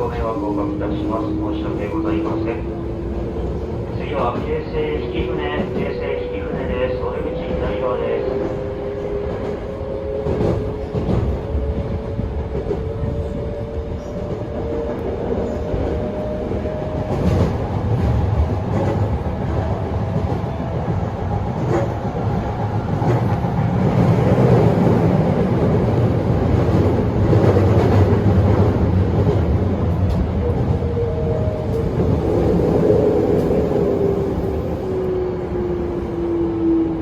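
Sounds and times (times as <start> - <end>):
wheel and rail rumble: 0.0 - 37.0.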